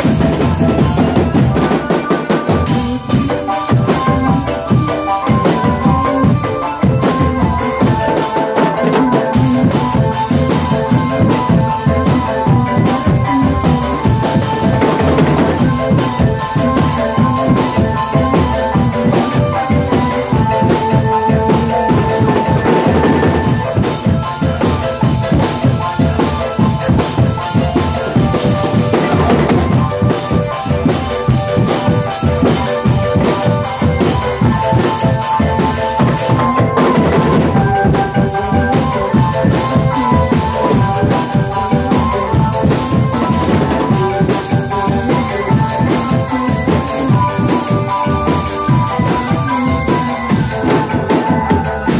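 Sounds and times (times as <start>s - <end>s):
drums beating: 0.0s - 51.9s
keyboard melody through speakers: 0.0s - 51.9s.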